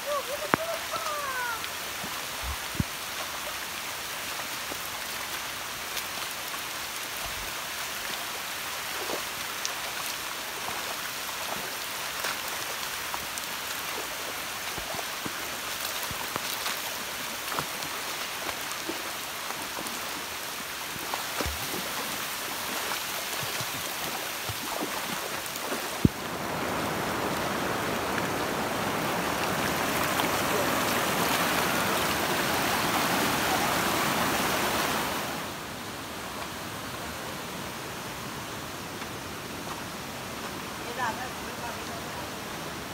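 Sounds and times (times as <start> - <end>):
loud rushing water: 0.0 - 42.9
running water and rain hiss: 0.0 - 42.9.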